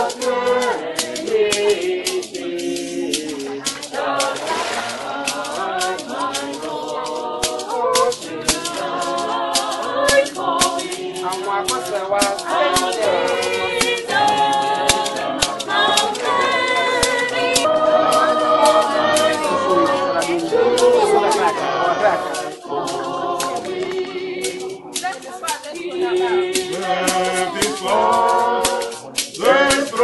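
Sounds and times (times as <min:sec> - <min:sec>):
group singing: 0:00.0 - 0:30.0
percussive beat: 0:00.0 - 0:30.0.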